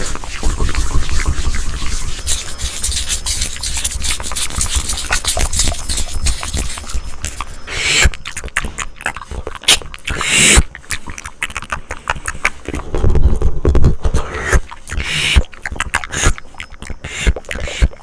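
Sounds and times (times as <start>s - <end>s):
breathy hisses: 0.0s - 10.7s, 14.2s - 18.0s
wet mouth clicks and pops: 2.4s - 18.0s.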